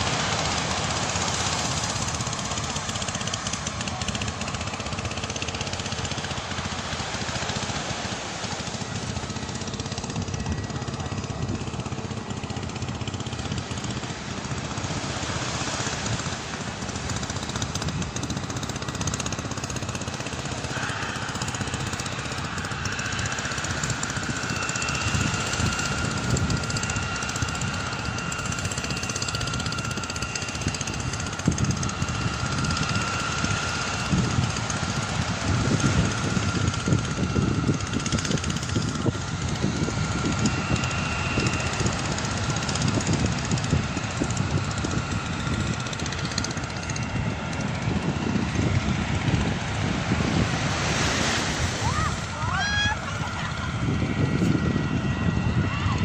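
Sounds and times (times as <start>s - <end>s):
high steady engine whine: 0.0s - 56.0s
higher engine whine: 0.0s - 56.0s
jet engines rumbling: 0.0s - 56.0s
wind buffeting microphone: 8.8s - 56.0s.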